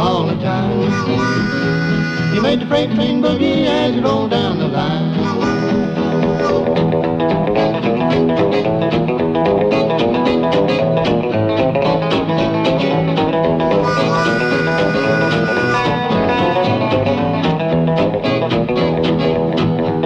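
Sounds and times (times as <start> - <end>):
guitars picking boogie rhythm: 0.0 - 20.0
harmonica: 0.2 - 19.8.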